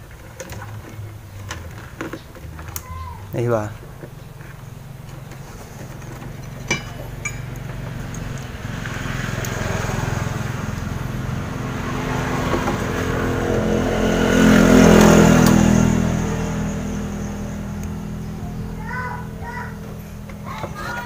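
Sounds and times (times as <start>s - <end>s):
vehicle engine passing by: 0.0s - 21.0s.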